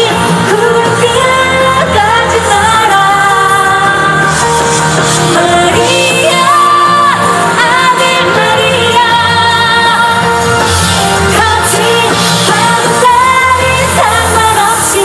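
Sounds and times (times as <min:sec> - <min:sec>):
pop backing track: 0:00.0 - 0:15.0
woman singing: 0:00.0 - 0:15.0.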